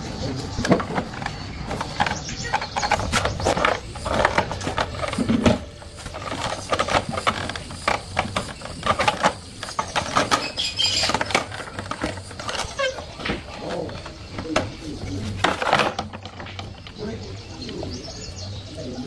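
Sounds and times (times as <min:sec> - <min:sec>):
tools and metal parts clicking: 0:00.5 - 0:17.1.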